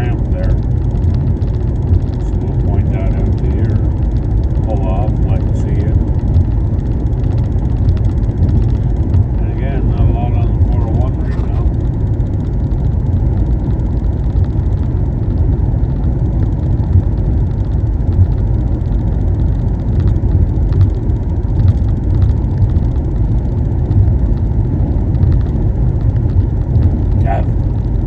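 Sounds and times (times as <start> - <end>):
car cabin road noise: 0.0 - 28.0.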